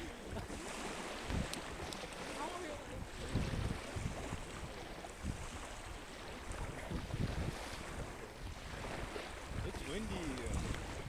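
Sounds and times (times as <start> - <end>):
beach surf: 0.0 - 11.0
wind buffeting microphone: 0.0 - 11.0.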